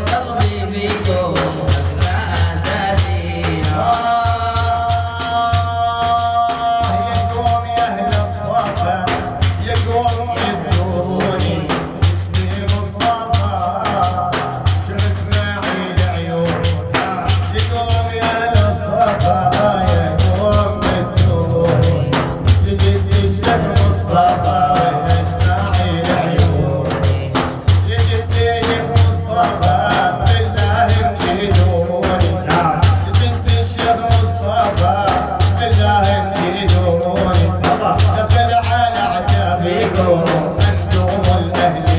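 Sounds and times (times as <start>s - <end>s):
drums beating: 0.0s - 41.9s
solo singer: 0.0s - 41.9s.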